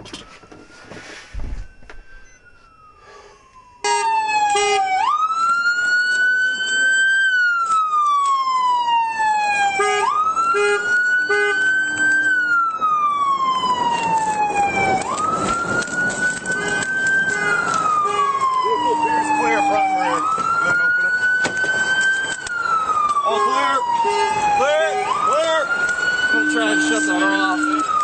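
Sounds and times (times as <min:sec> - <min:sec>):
police siren wailing: 0:00.0 - 0:28.0.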